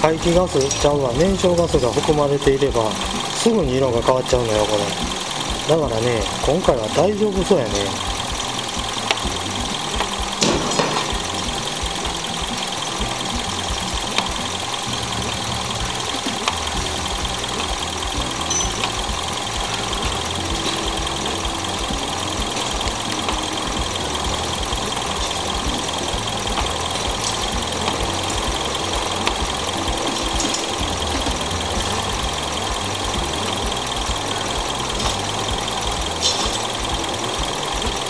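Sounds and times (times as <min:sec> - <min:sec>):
petrol engine idling: 0:00.0 - 0:38.0.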